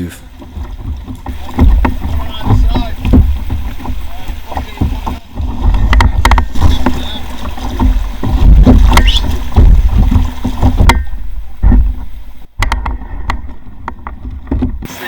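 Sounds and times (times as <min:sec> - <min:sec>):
paddle strokes in water: 0:00.0 - 0:15.0
deep rumble: 0:00.4 - 0:14.8
sharp knocks: 0:00.4 - 0:14.9.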